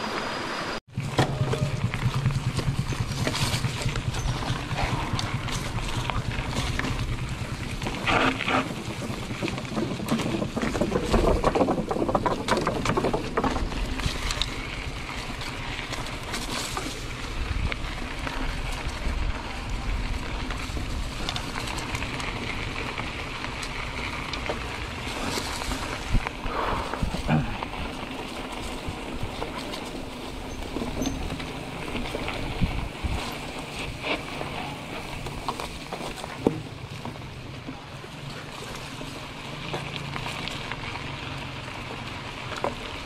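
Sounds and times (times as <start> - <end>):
bicycle tyre noise: 0.0 - 43.0
wind rumbling on microphone: 0.9 - 39.4
bike rattling: 0.9 - 43.0.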